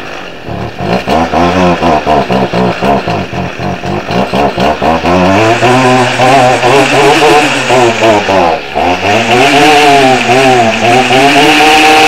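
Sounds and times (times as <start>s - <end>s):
string trimmer engine running roughly: 0.0s - 12.0s.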